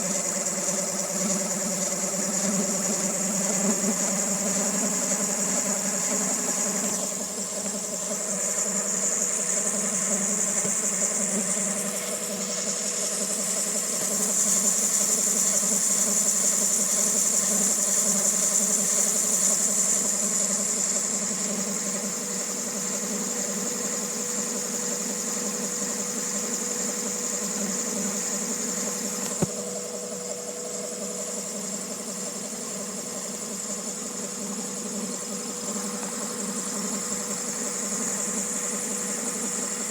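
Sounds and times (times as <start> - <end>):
high-pitched engine whine: 0.0 - 39.9.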